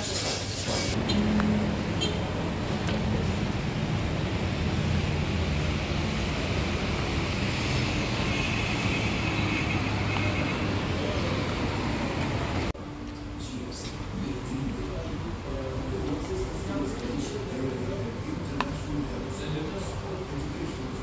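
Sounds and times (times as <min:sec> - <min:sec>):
road traffic hum: 0:00.2 - 0:21.0.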